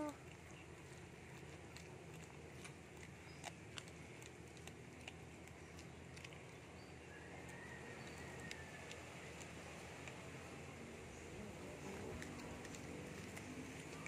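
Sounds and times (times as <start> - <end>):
cat chewing raw fish: 0.0 - 14.0.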